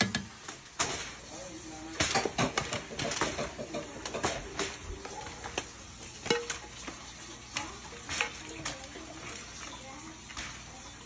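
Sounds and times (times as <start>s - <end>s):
spoon scraping and knocking a pan: 0.0s - 1.3s, 1.9s - 11.0s.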